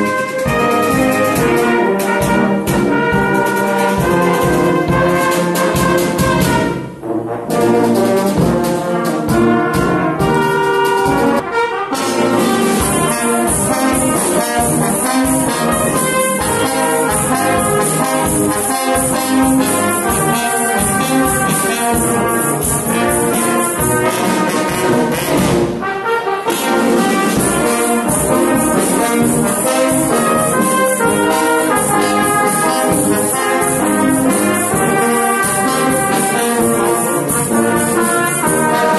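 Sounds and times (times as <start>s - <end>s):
brass music with trombones and trumpets: 0.0s - 38.9s.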